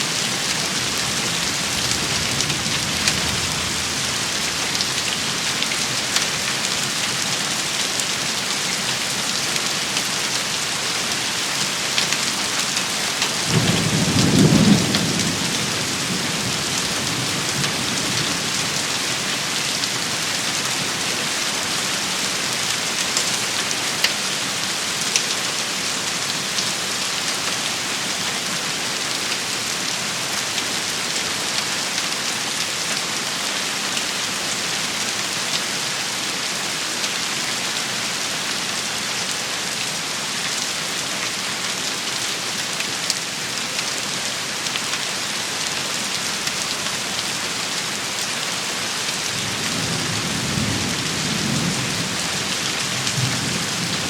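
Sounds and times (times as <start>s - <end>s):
rain hissing and pattering: 0.0s - 54.0s.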